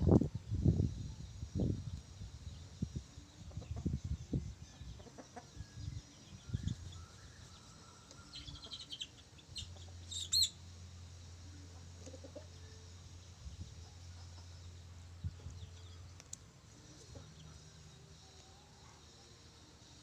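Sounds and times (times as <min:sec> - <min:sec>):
chickens clucking and chirping: 0:00.0 - 0:19.2.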